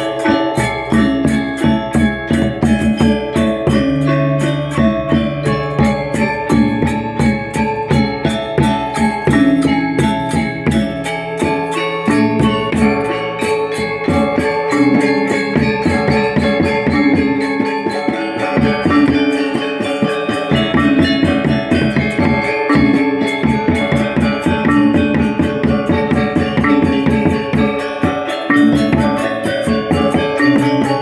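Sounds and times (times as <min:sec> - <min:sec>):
drums: 0:00.0 - 0:31.0
gamelan metallophones and gongs: 0:00.0 - 0:31.0
metallic cymbal clashes: 0:00.0 - 0:31.0.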